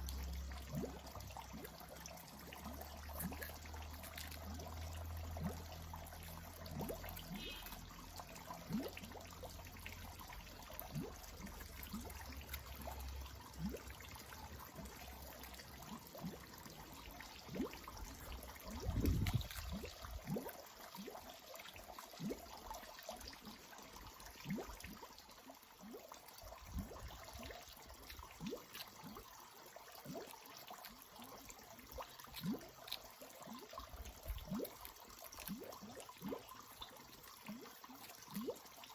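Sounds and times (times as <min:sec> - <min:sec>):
water trickling and pouring: 0:00.0 - 0:38.9.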